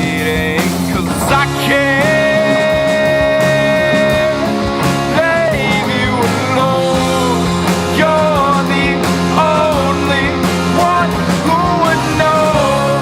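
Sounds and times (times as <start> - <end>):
distorted guitars: 0.0 - 13.0
drums: 0.0 - 13.0
punk rock band playing: 0.0 - 13.0
gliding melody line: 1.1 - 13.0.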